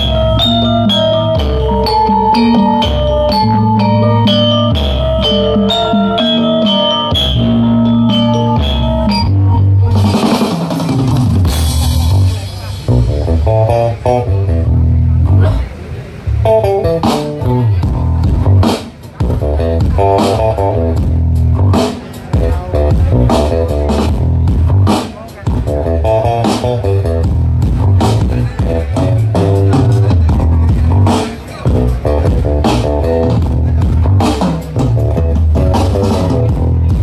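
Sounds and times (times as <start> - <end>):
loud music with heavy bass: 0.0 - 37.0.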